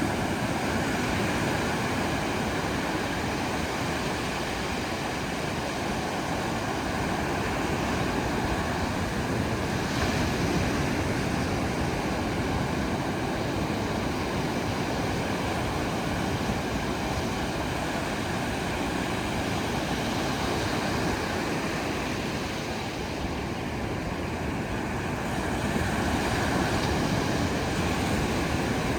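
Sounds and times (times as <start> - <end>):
ocean surf rushing: 0.0 - 28.9.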